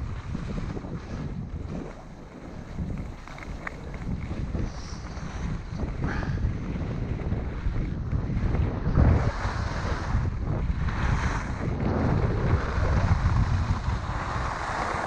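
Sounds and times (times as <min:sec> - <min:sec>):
skis scraping on hard snow: 0:00.0 - 0:15.0
wind rumbling on microphone: 0:00.0 - 0:15.0.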